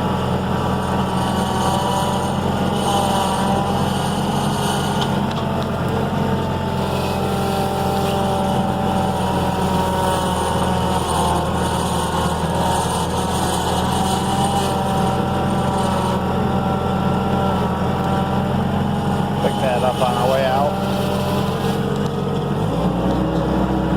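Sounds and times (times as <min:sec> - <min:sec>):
high engine whine: 0:00.0 - 0:23.9
skid steer engine running: 0:00.0 - 0:23.9.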